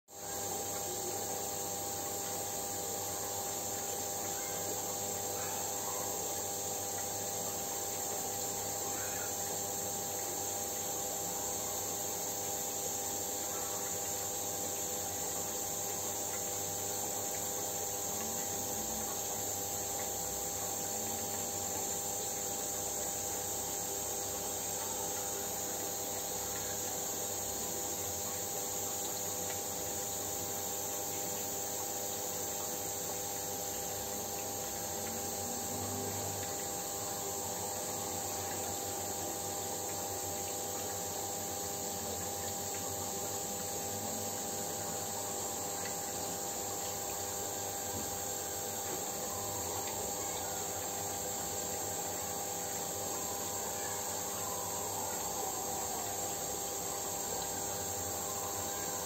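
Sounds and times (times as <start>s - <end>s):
high-pitched hiss: 0.1s - 59.0s
steady hum of held tones: 0.1s - 59.0s.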